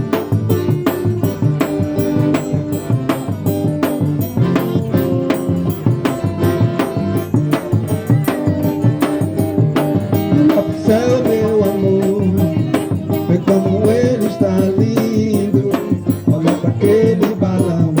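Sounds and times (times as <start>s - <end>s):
band playing live: 0.0s - 18.0s.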